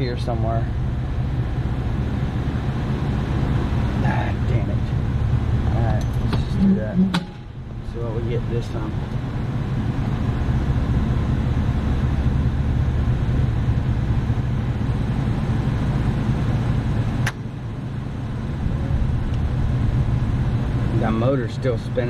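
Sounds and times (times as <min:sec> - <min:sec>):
motor rumbling: 0:00.0 - 0:22.0.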